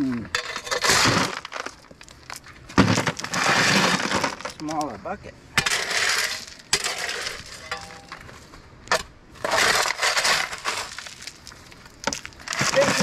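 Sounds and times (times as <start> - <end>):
shovel digging stony soil: 0.0 - 1.8, 2.8 - 5.0, 5.6 - 8.3, 8.9 - 13.0.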